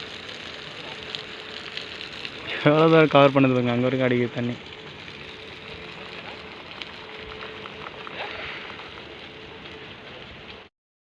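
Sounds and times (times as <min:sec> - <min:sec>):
irrigation sprinkler spraying water: 0:00.0 - 0:10.7.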